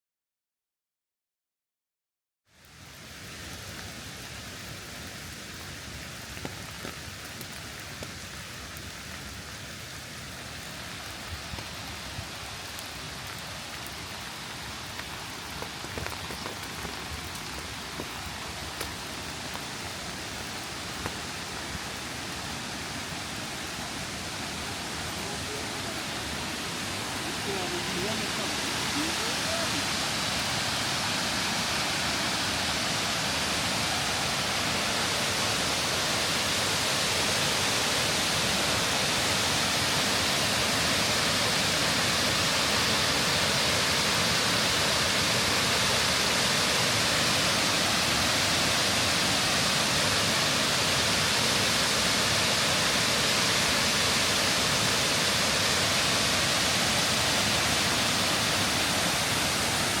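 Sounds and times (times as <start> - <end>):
waterfall rushing: 2.7 - 60.0.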